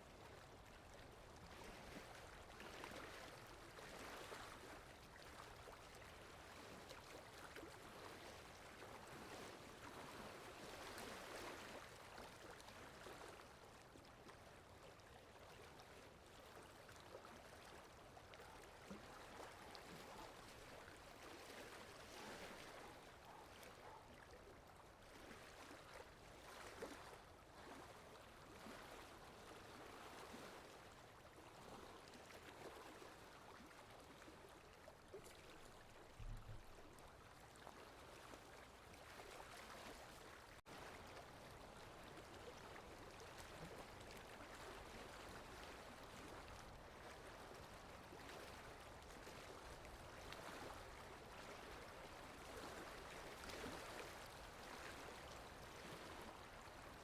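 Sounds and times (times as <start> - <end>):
water lapping: 0.0 - 57.0
wind: 0.0 - 57.0.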